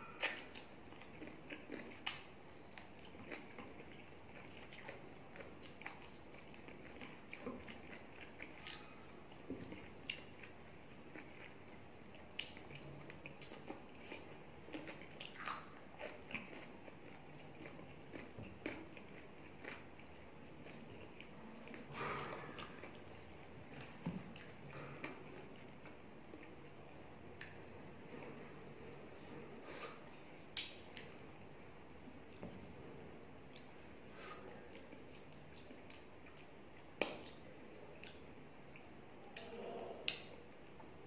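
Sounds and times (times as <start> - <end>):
chewing with wet smacking: 0.0 - 26.7, 27.3 - 28.8, 29.8 - 31.3, 33.4 - 33.8, 34.5 - 40.4.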